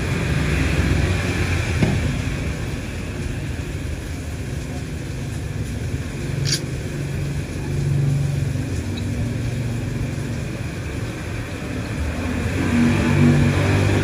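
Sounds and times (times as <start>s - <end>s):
vehicles passing on wet road: 0.0s - 14.0s.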